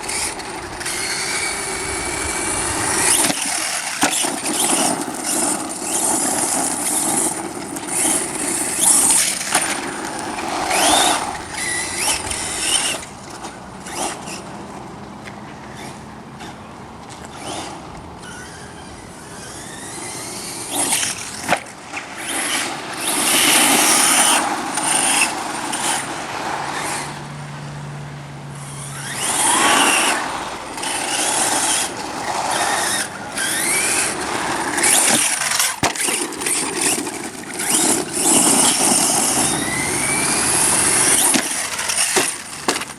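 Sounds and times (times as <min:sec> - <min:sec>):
electric motor whining: 0:00.0 - 0:42.9
tyres rushing: 0:00.0 - 0:42.9.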